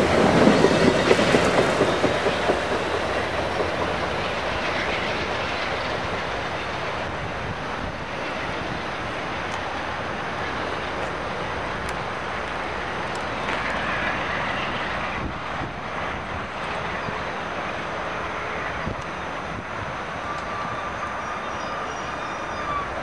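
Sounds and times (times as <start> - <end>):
passenger train rumbling on rails: 0.0 - 23.0.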